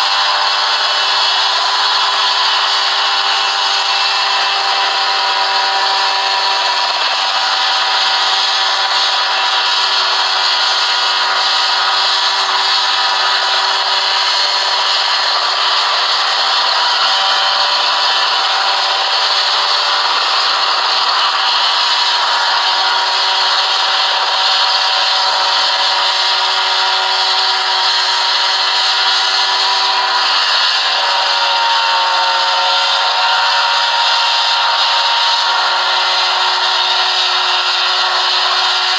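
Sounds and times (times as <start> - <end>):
helicopter engine and rotor droning: 0.0 - 38.9.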